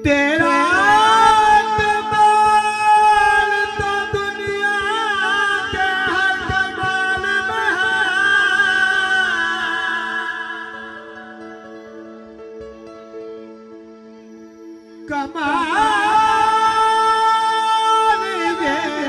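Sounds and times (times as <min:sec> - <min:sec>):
man singing: 0:00.0 - 0:11.7, 0:15.0 - 0:19.0
electronic keyboard: 0:00.0 - 0:19.0.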